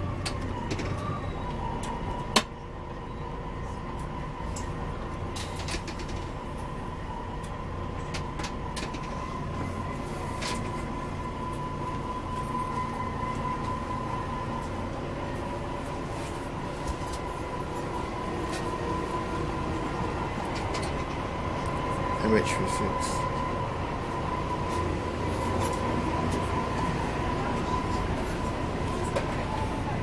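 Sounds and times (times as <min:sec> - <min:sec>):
coach interior rumble: 0:00.0 - 0:30.0.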